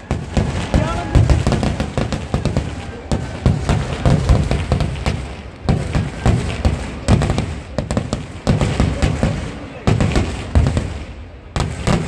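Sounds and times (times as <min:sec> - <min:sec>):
fireworks bangs and thuds: 0:00.0 - 0:12.0
sharp firework crack: 0:00.0 - 0:12.0.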